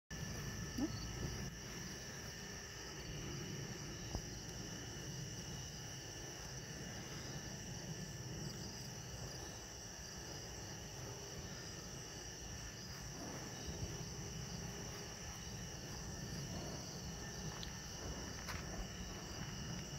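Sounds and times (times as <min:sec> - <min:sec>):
crickets trilling: 0:00.1 - 0:19.9
low rumble: 0:00.2 - 0:19.9.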